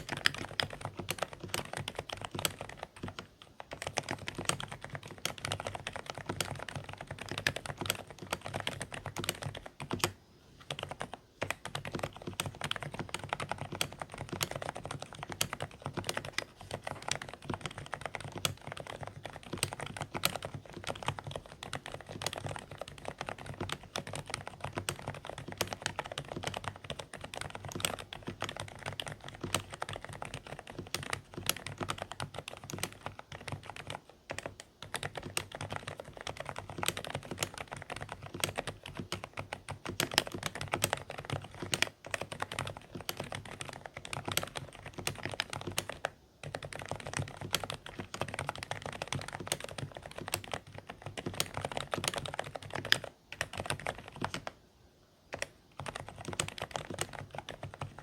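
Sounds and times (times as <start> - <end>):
fast typing on keyboard: 0.0 - 54.6, 55.3 - 58.0.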